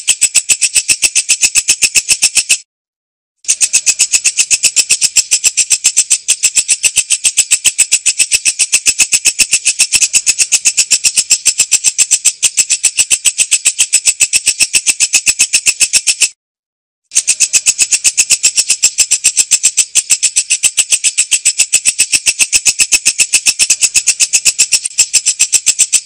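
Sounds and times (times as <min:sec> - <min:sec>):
bush cricket rasping: 0:00.0 - 0:02.6, 0:03.5 - 0:16.3, 0:17.1 - 0:26.0.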